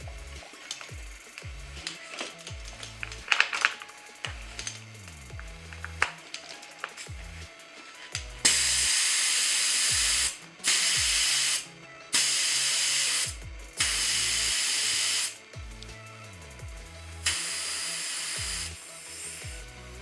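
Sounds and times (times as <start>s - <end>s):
air hissing out of tire valve: 0.0s - 20.0s.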